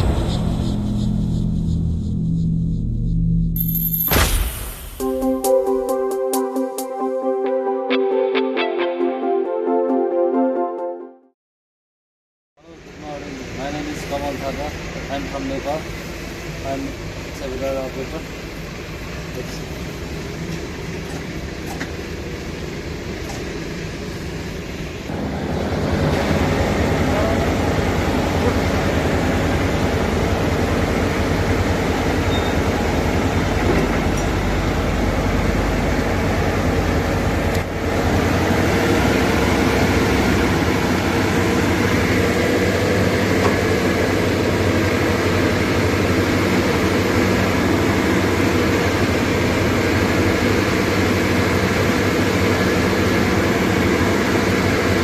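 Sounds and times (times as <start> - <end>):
excavator diesel engine running: 0.0 - 3.2, 12.7 - 55.0.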